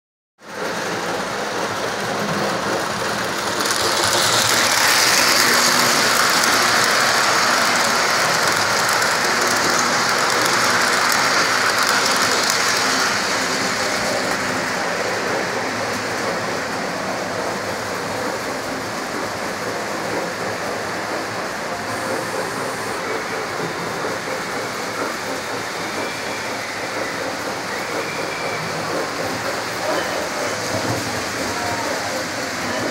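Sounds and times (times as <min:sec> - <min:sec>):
model train wheels rattling on rails: 0:00.5 - 0:32.9.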